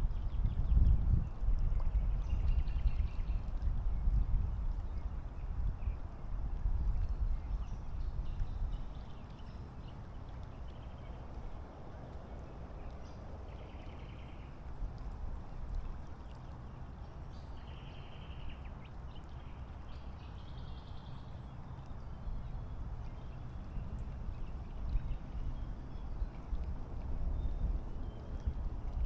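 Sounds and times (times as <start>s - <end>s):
low rumble of wind and water: 0.0s - 29.0s.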